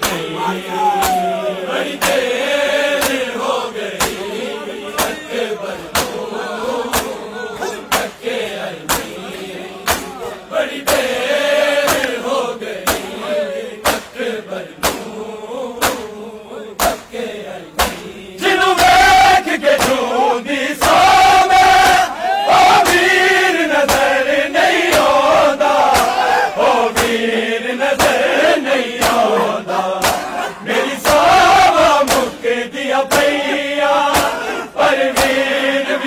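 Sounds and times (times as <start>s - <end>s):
palms slapping bare chests: 0.0s - 16.2s, 16.8s - 17.2s, 17.8s - 18.2s, 18.8s - 27.3s, 27.9s - 29.4s, 30.0s - 32.4s, 33.1s - 35.6s
men chanting together: 0.0s - 36.0s.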